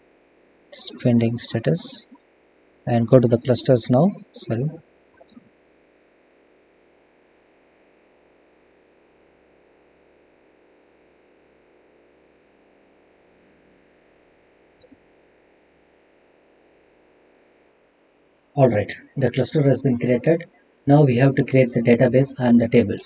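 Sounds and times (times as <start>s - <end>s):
microphone hiss and hum: 0.0s - 23.0s.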